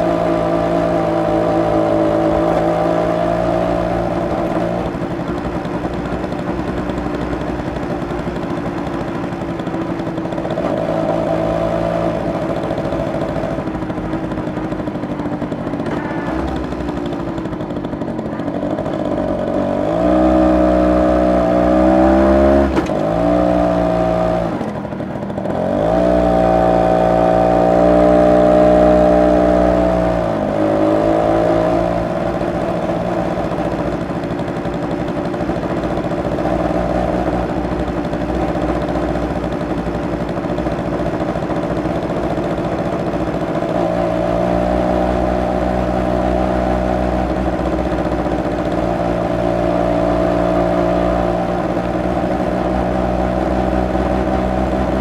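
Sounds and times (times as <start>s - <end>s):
moped engine running: 0.0s - 55.0s.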